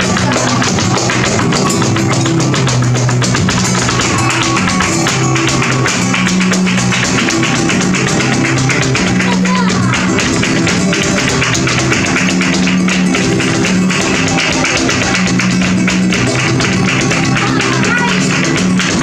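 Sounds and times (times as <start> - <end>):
flamenco guitar music: 0.0 - 19.0
shoes striking wooden stage: 0.0 - 19.0.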